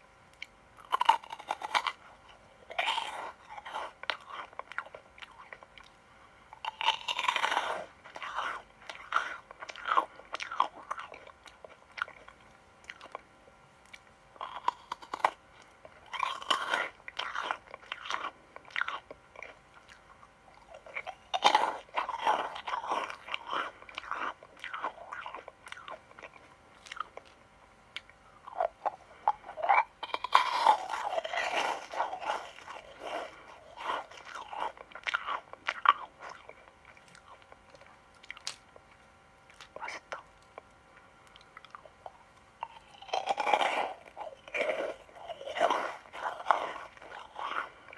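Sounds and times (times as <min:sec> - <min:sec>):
crunchy sweets being chewed: 0:00.0 - 0:47.9.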